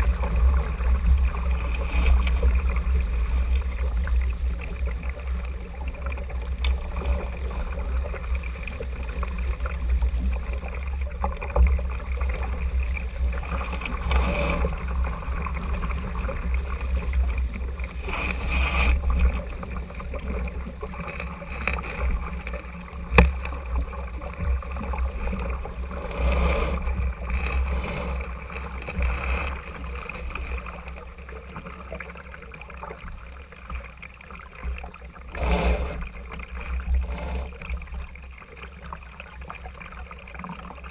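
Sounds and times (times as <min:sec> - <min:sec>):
wind rumble on camera: 0:00.0 - 0:32.1, 0:34.6 - 0:38.3
water splashing against hull: 0:00.0 - 0:40.9.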